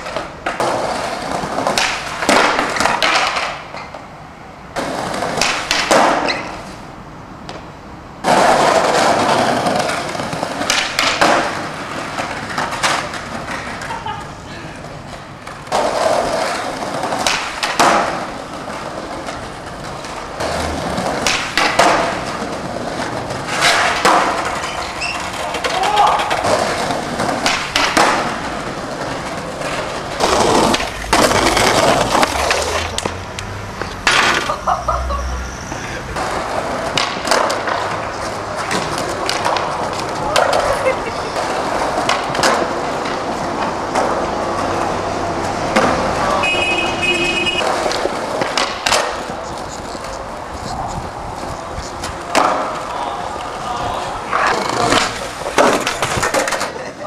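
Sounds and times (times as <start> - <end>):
skateboard clacks: 0.0 - 34.8, 36.1 - 57.0
skateboard wheels rolling on paving: 0.0 - 57.0.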